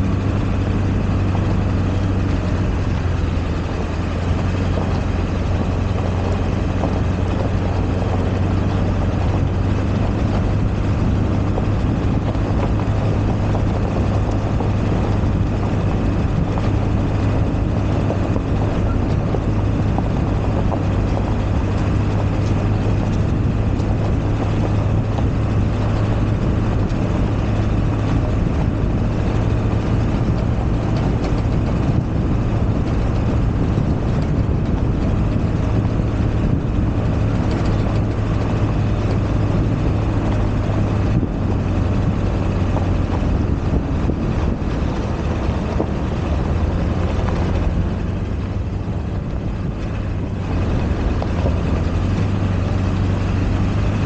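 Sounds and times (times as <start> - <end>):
pickup engine drone: 0.0 - 54.0
tyre noise on gravel: 0.0 - 54.0.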